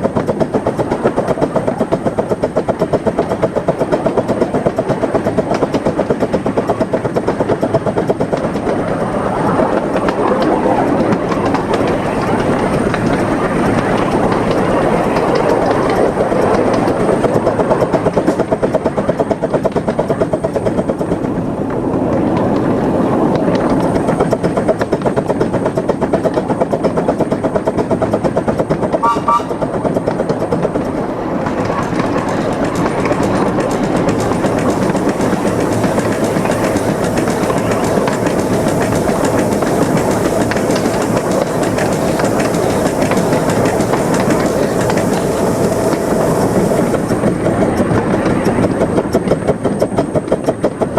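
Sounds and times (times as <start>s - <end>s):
rail clatter: 0.0s - 50.9s
steam locomotive running: 0.0s - 50.9s.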